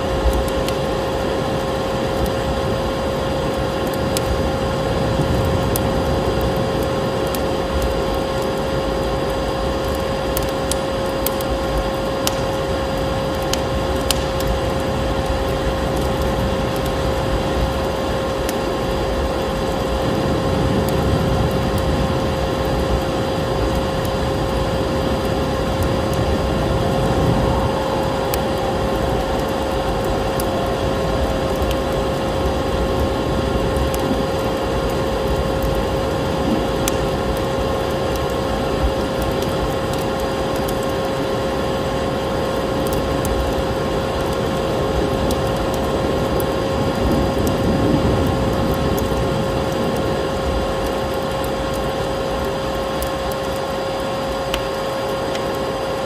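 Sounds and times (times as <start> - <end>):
snowstorm wind rushing: 0.0 - 11.0, 11.9 - 39.6, 43.2 - 50.8
vacuum cleaner motor drone: 0.0 - 50.7
wood fire crackling: 0.0 - 56.0.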